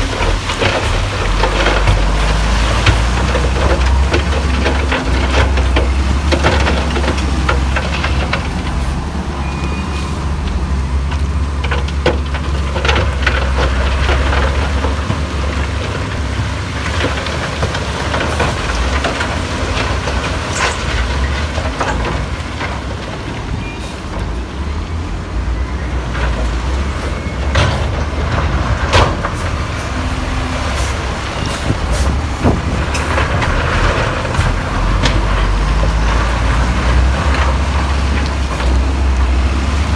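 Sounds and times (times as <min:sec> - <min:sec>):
clanks and knocks: 0:00.0 - 0:09.0, 0:10.5 - 0:24.4, 0:25.9 - 0:39.9
diesel machinery rumbling: 0:00.0 - 0:39.9.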